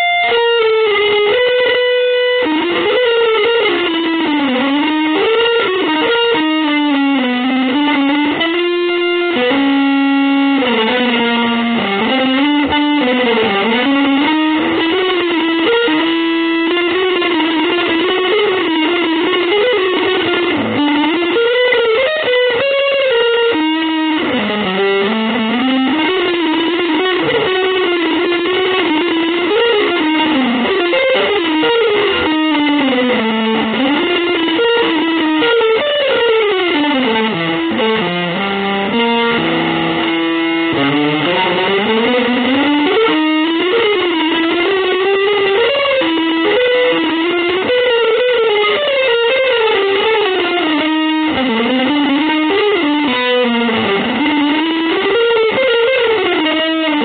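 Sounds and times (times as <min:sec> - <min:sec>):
distorted electric guitar melody: 0:00.0 - 0:57.0.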